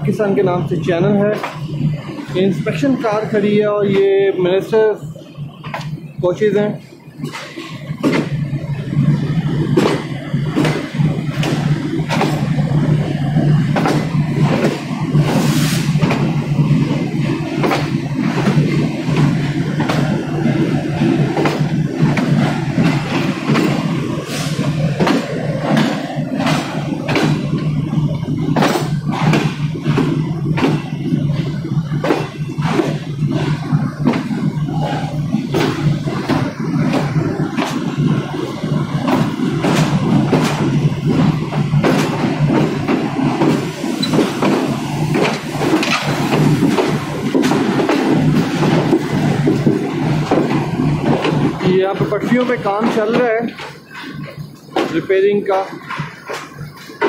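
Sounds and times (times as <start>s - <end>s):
train coach rumbling: 0.0s - 57.0s
wheels clacking over rail joints: 7.2s - 57.0s.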